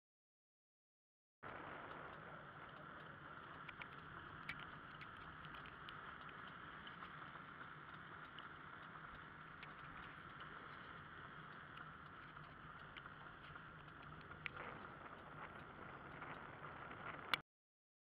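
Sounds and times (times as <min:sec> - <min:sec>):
wheels rolling on asphalt: 0:01.4 - 0:17.4
light clicks and rattles: 0:01.7 - 0:17.4.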